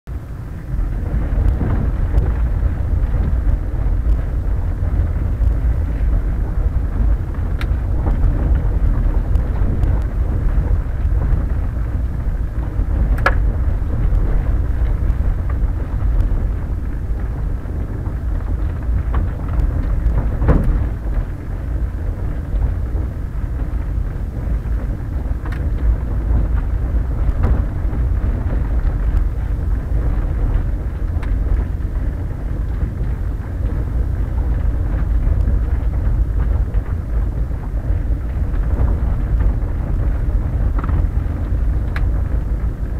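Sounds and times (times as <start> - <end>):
tyres rumbling on gravel: 0.1 - 42.9
wind on microphone: 0.1 - 42.9.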